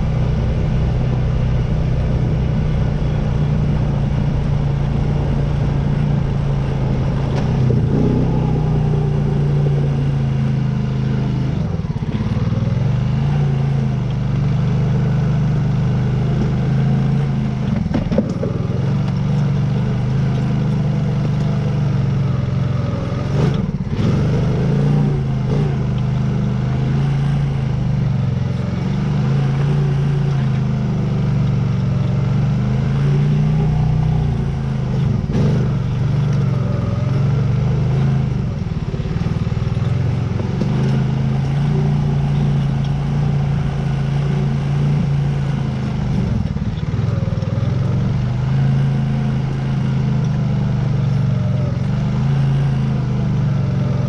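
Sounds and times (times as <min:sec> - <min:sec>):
atv engine running under load: 0:00.0 - 0:54.0.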